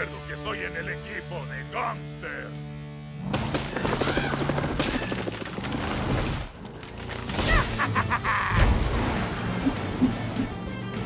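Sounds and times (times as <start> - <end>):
background music: 0.0 - 5.9, 6.5 - 11.0.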